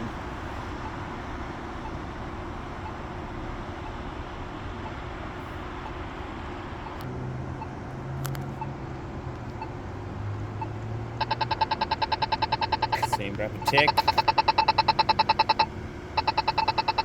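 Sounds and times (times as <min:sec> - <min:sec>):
crossing signal locator tone ticking: 0:00.0 - 0:17.0
street traffic: 0:00.0 - 0:17.0
vehicle engine hum: 0:00.0 - 0:17.0.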